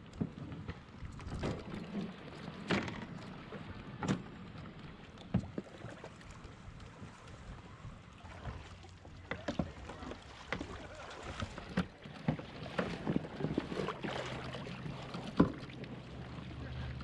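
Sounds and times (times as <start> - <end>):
gear clattering on plastic kayak: 0.0 - 7.6, 8.4 - 16.0
low steady hum: 0.0 - 17.0.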